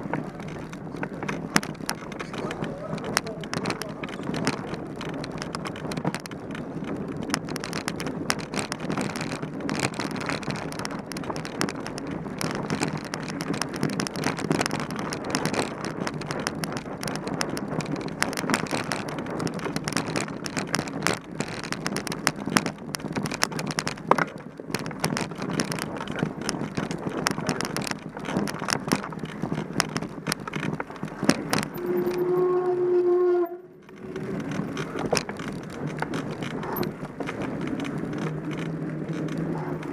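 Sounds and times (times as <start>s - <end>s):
bike rattling and knocking: 0.0s - 39.9s
tyre noise: 0.0s - 39.9s
wind noise: 0.0s - 39.9s.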